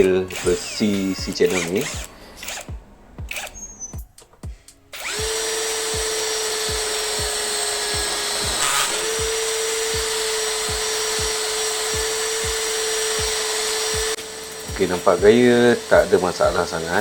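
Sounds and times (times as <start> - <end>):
cordless drill boring into steel: 0.0 - 4.0, 4.9 - 17.0
drill bit scraping: 0.0 - 17.0.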